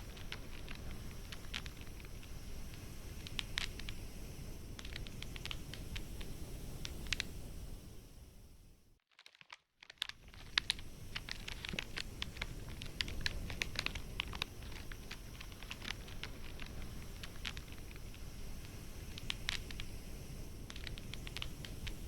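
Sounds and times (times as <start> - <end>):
campfire crackling and popping: 0.0 - 4.2, 4.8 - 7.4, 10.0 - 22.0
low hiss: 0.0 - 9.0, 10.0 - 22.0.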